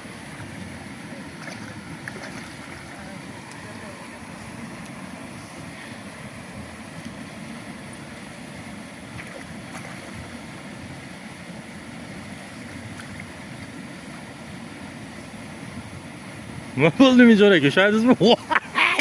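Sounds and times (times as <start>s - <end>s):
water sounds: 0.0s - 19.0s.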